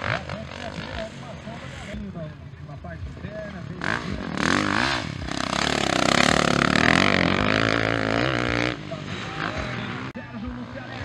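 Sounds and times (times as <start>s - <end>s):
motocross bike engine revving: 0.0s - 2.2s, 2.8s - 11.0s.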